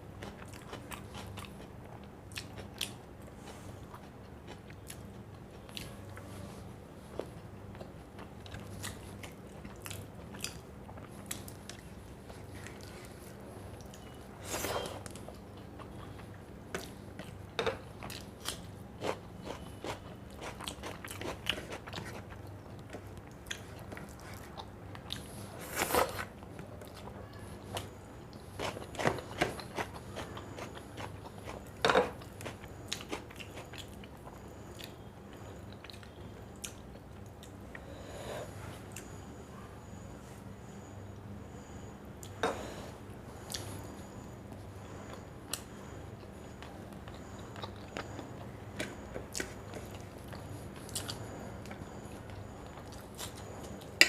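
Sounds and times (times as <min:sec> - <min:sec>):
person chewing crunchy food: 0:00.2 - 0:06.4, 0:07.1 - 0:37.9, 0:45.0 - 0:54.0.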